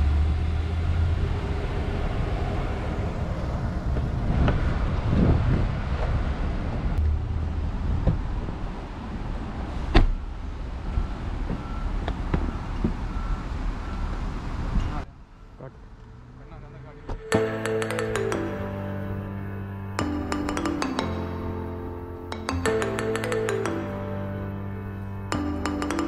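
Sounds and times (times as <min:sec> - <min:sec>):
car engine rumbling: 0:00.0 - 0:25.8.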